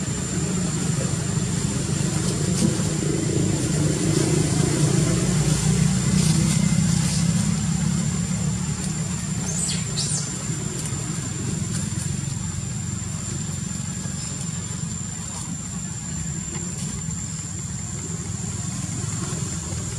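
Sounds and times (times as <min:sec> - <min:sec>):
engine rumbling: 0:00.0 - 0:19.9.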